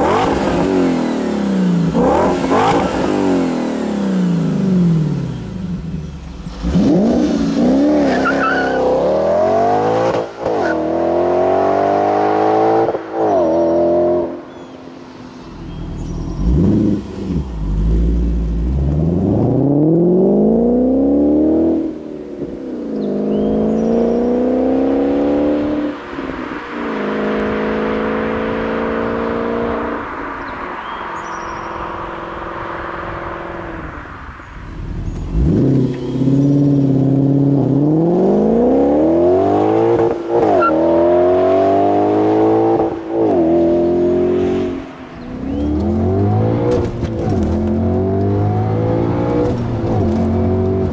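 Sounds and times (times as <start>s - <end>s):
car engine accelerating hard: 0.0s - 14.5s, 15.5s - 50.9s.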